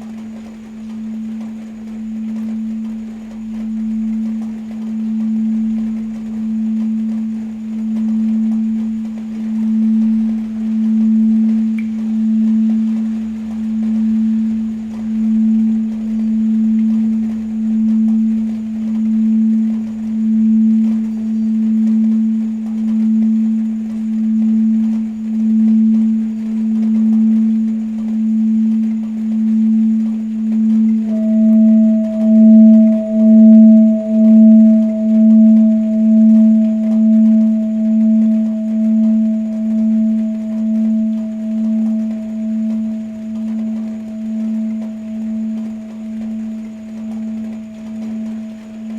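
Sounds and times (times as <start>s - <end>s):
singing bowl sustained low tone: 0.0s - 48.9s.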